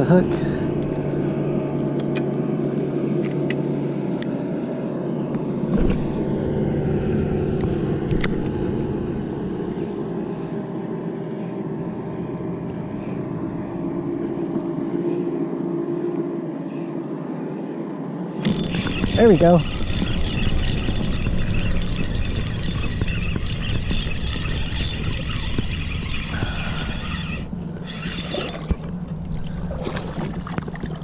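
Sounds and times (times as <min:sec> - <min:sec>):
motor humming: 0:00.0 - 0:17.6, 0:18.3 - 0:30.6.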